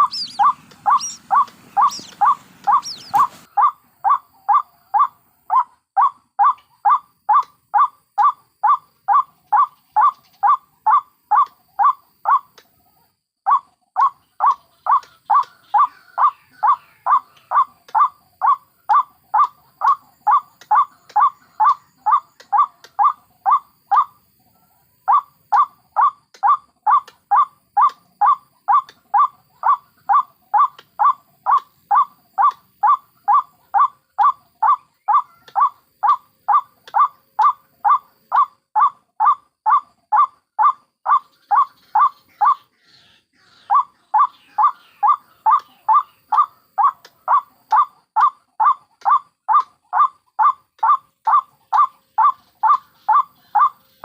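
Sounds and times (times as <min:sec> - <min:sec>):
waterhen calls: 0:00.0 - 0:12.5, 0:13.5 - 0:24.2, 0:25.1 - 0:54.0.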